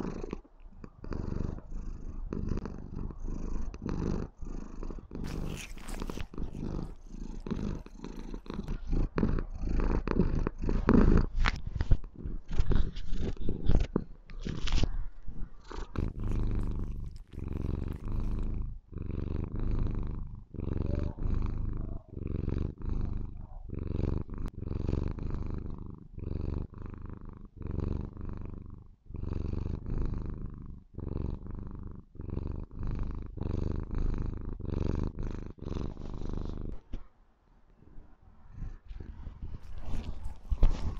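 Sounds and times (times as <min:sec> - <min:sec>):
kitten purring loudly: 0:00.0 - 0:37.0, 0:38.0 - 0:40.9.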